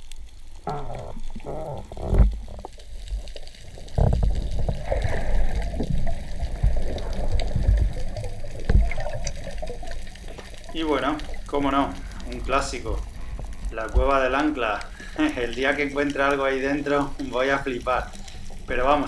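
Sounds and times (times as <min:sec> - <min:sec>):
churning water rumbling: 0:00.6 - 0:19.0
muffled underwater burbling: 0:00.6 - 0:19.0.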